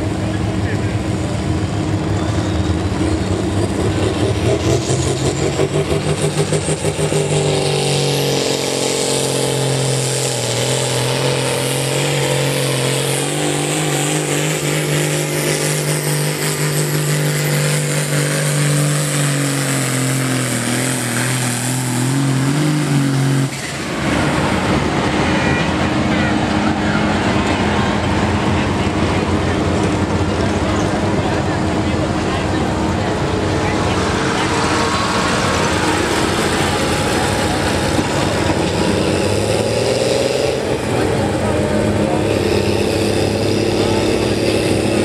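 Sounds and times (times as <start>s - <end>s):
diesel tractor engine revving: 0.0s - 45.0s.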